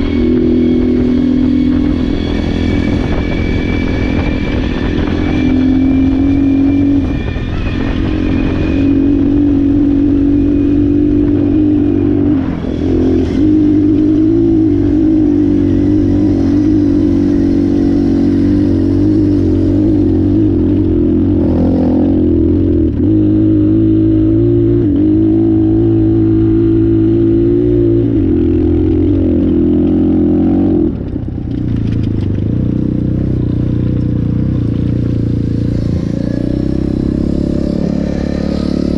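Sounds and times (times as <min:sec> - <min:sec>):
dirt bike engine running hard: 0:00.0 - 0:38.9.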